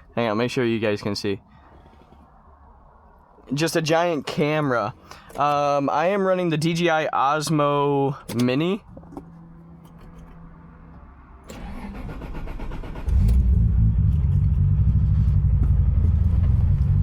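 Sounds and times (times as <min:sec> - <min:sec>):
car engine starting and idling: 0:00.0 - 0:17.0.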